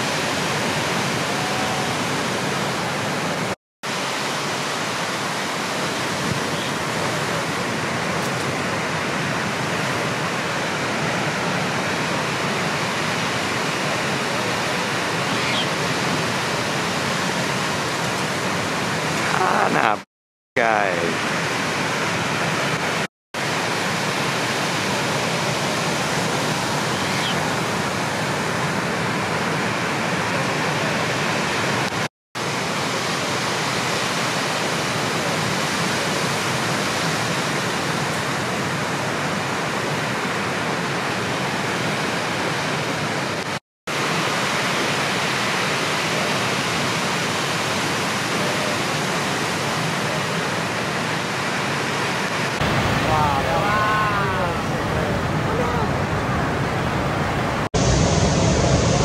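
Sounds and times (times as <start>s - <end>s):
surf water rushing: 0.0s - 20.0s, 20.6s - 59.0s
wind: 0.0s - 20.0s, 20.6s - 59.0s.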